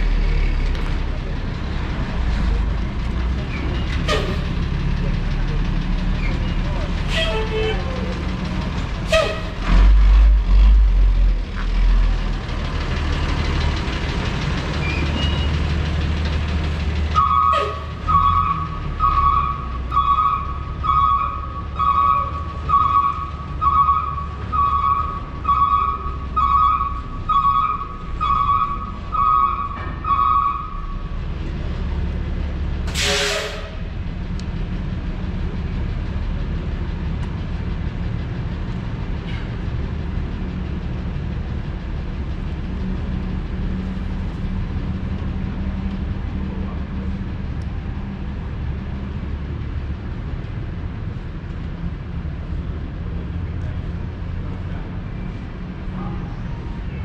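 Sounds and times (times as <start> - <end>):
heavy vehicle engine rumble: 0.0 - 57.0
street traffic: 0.0 - 57.0.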